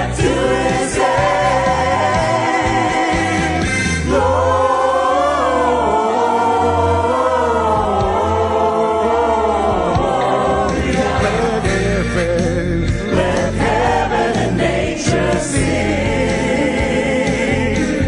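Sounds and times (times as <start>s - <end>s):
choir accompaniment: 0.0s - 18.0s
gospel choir singing: 0.0s - 18.0s.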